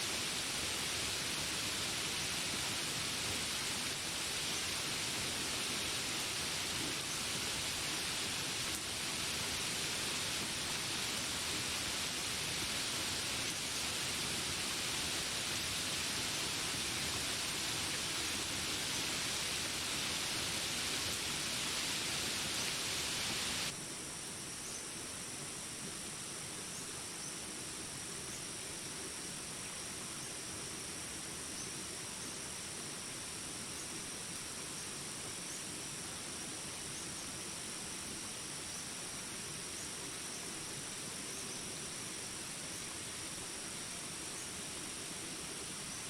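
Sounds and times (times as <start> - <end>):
rain hiss: 0.0 - 46.0
high-pitched insect chorus: 0.1 - 46.0.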